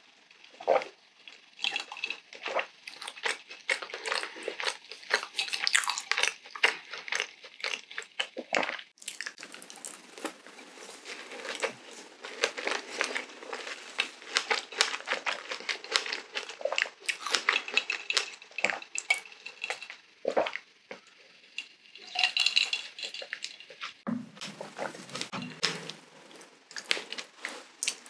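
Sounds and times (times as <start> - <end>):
wet chewing mouth sounds: 0.6 - 20.6, 24.8 - 28.0.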